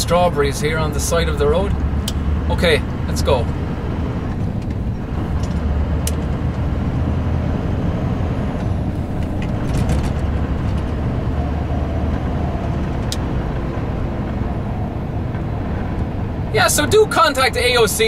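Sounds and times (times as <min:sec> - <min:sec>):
diesel engine droning under load: 0:00.0 - 0:18.0.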